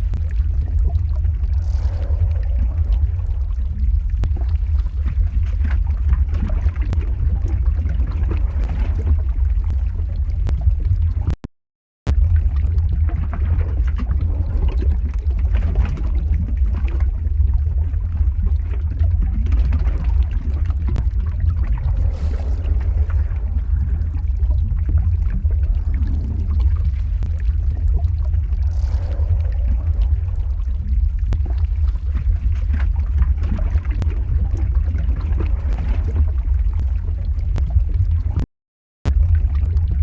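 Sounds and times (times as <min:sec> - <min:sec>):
crackling texture: 0:00.0 - 0:11.4, 0:12.1 - 0:40.0
deep rumble: 0:00.0 - 0:11.4, 0:12.1 - 0:40.0.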